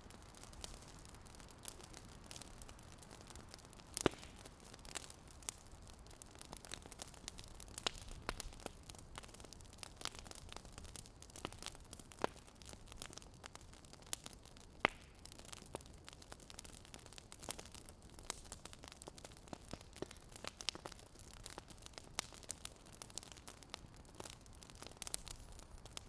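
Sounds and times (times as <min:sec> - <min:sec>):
low steady hiss: 0:00.0 - 0:26.0
wood fire crackling: 0:00.0 - 0:26.0.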